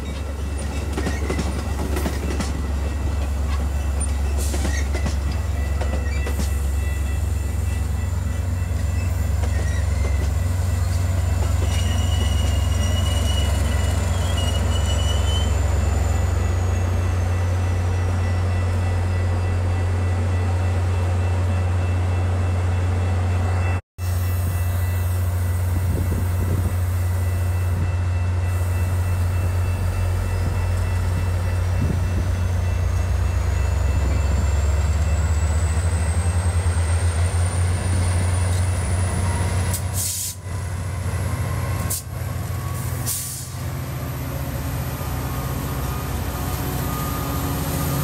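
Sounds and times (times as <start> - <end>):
diesel locomotive rumbling: 0.0 - 48.0.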